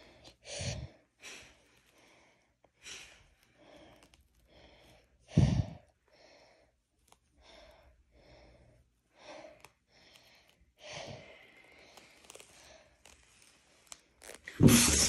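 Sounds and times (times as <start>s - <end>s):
heavy breathing: 0.0s - 13.2s.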